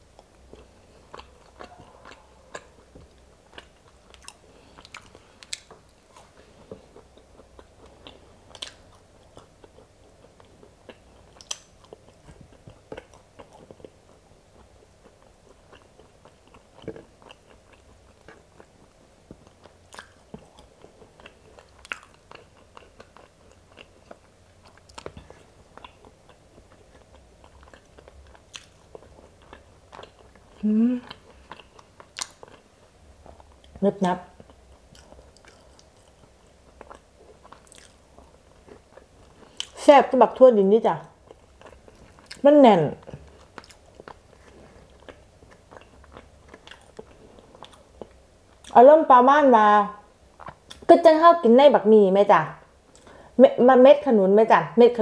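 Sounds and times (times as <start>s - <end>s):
chewing beans: 0.1s - 40.1s, 41.0s - 48.8s, 50.3s - 51.0s.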